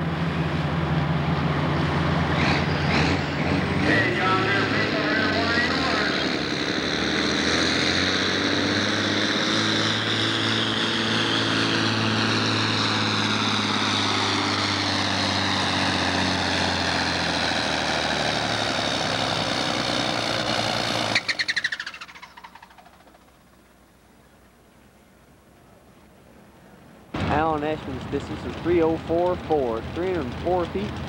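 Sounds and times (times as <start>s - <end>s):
tractor engine at full throttle: 0.0s - 23.8s, 27.2s - 31.0s
engine sputtering to a stop: 1.4s - 24.2s, 27.2s - 31.0s.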